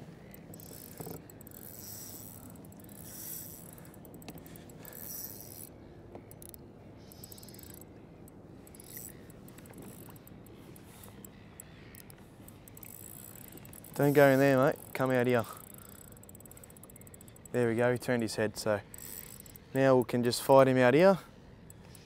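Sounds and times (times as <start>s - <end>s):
fishing reel whirring and clicking: 0.2s - 20.5s, 21.6s - 22.0s.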